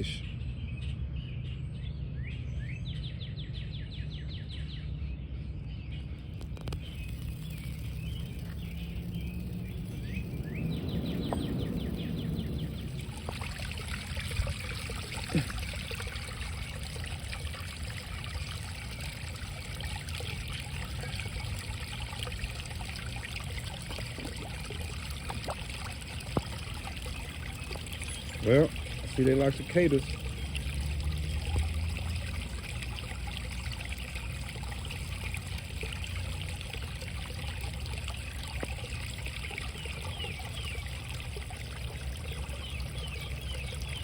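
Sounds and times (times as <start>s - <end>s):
water trickling into pond: 0.0s - 0.2s, 5.7s - 44.0s
birds chirping: 0.0s - 44.0s.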